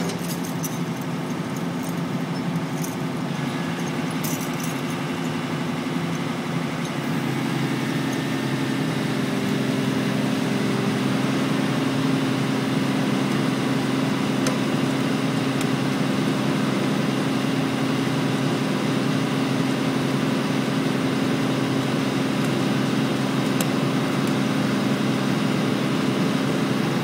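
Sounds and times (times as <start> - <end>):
diesel engine running steadily: 0.0 - 27.0.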